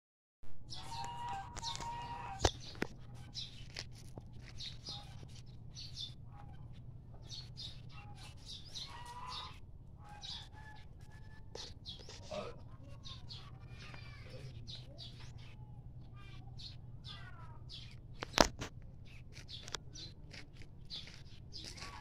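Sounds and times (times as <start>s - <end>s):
steady low hum: 0.6s - 22.0s
birds chirping: 0.7s - 22.0s.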